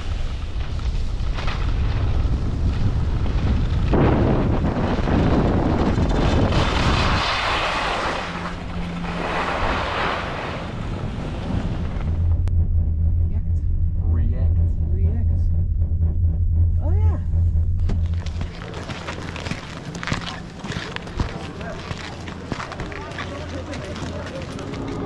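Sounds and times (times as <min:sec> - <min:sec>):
wind buffeting microphone: 0:00.0 - 0:24.3.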